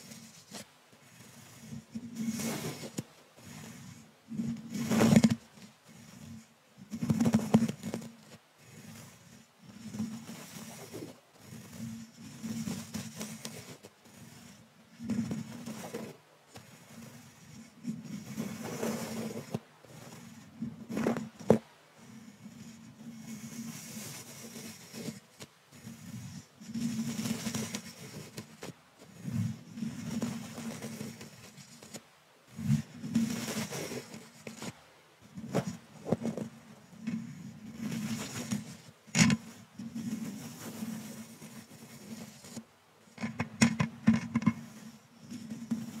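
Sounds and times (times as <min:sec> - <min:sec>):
brush scraping microphone grille: 0:00.0 - 0:46.0.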